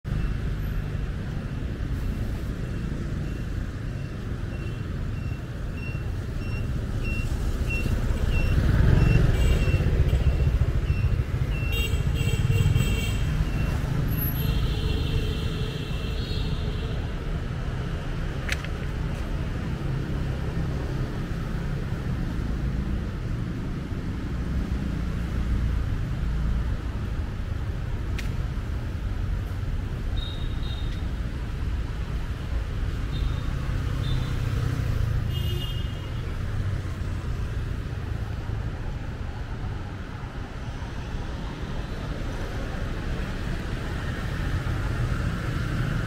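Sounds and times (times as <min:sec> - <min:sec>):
passing motorbikes and cars: 0:00.1 - 0:46.0.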